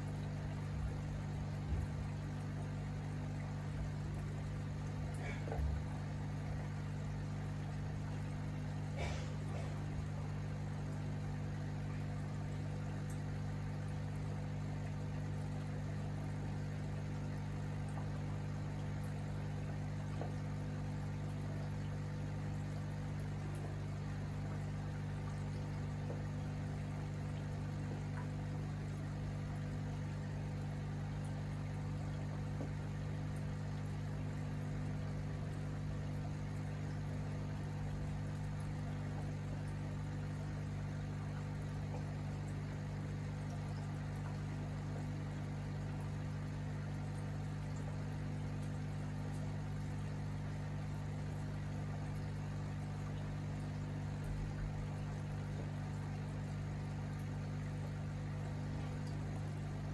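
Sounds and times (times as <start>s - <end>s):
bubbling water: 0.0s - 59.9s.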